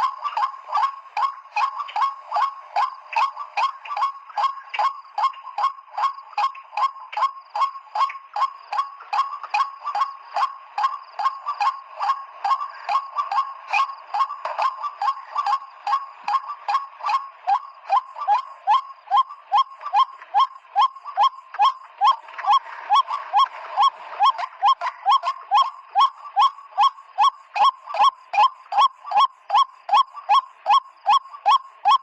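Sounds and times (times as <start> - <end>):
waterhen calling: 0.0 - 32.0.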